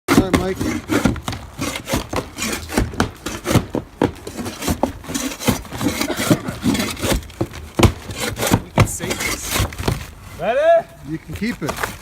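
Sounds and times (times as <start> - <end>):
wood cracking and knocking: 0.1 - 10.2.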